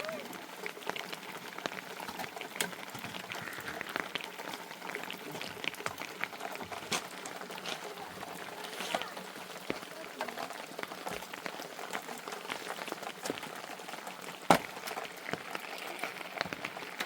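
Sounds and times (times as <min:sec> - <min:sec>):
heavy rain hissing: 0:00.0 - 0:17.0
raindrops hitting nearby surfaces: 0:00.0 - 0:17.0.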